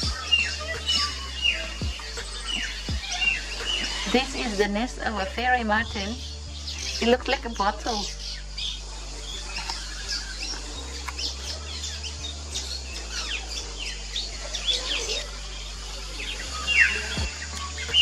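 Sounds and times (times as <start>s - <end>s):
birds chirping and twittering: 0.0s - 18.0s
down-slurred bird calls: 0.0s - 18.0s.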